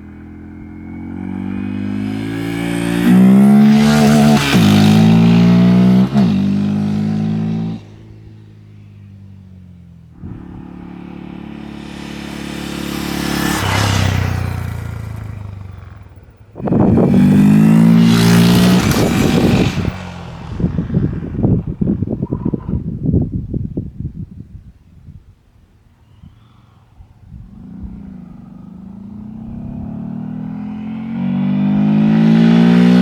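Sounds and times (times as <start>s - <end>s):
motorcycle engine revving: 0.0s - 23.2s, 27.3s - 33.0s
motorcycle passing by: 0.0s - 23.3s, 27.2s - 33.0s.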